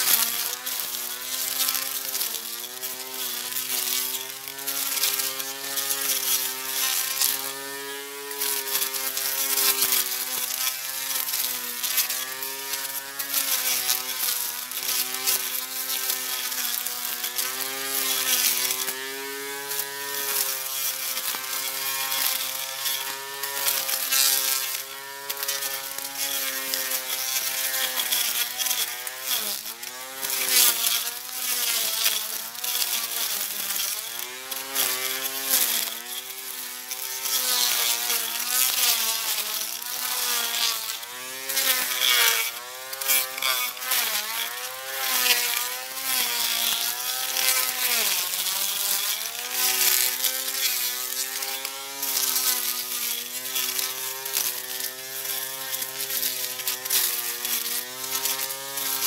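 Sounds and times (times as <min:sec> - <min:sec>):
electric grass cutter motor whining: 0:00.0 - 0:59.0.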